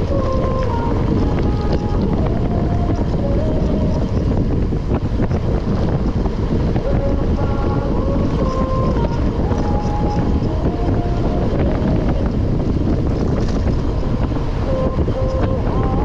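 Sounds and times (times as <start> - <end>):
faint held notes: 0.0 - 16.0
wind rumble on microphone: 0.0 - 16.0.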